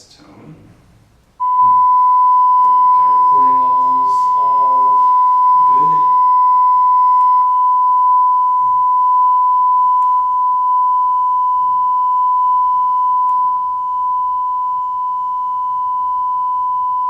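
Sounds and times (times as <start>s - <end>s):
steady sine test tone: 1.3s - 17.0s.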